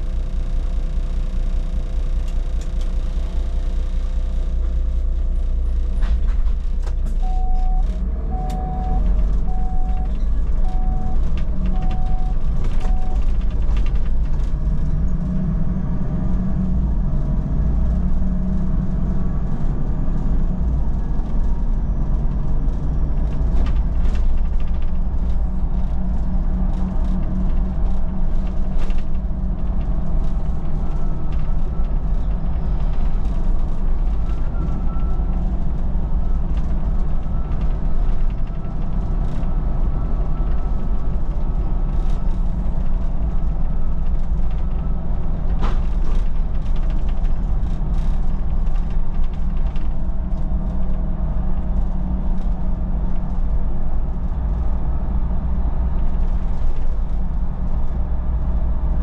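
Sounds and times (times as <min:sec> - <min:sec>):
bus engine drone: 0:00.0 - 0:59.0
rattles and creaks: 0:02.1 - 0:59.0.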